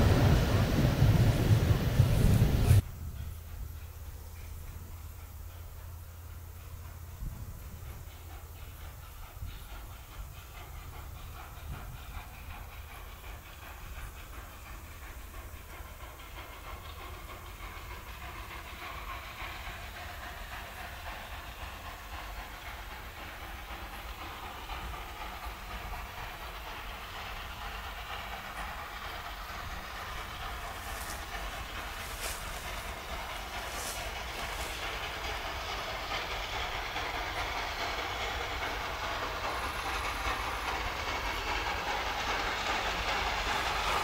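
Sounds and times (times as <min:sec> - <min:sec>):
steam hissing: 0:00.0 - 0:44.0
train rail and running noise: 0:00.0 - 0:44.0.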